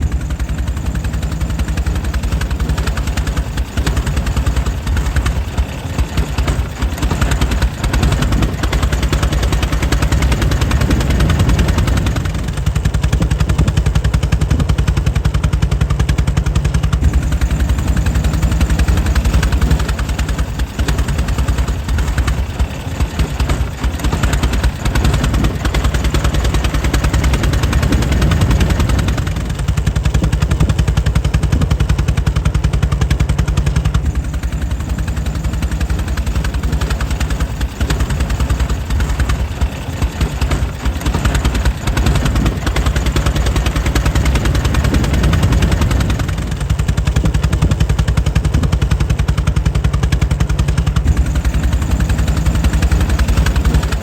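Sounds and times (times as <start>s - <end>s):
air-cooled engine running: 0.0s - 54.0s.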